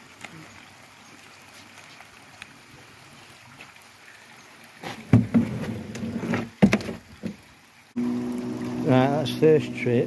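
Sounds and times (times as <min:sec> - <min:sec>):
water trickling in a pond: 0:00.0 - 0:10.0.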